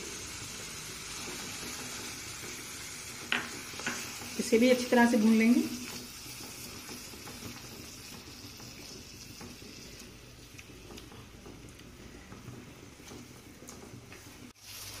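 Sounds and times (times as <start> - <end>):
soft steady sizzle: 0.0 - 15.0.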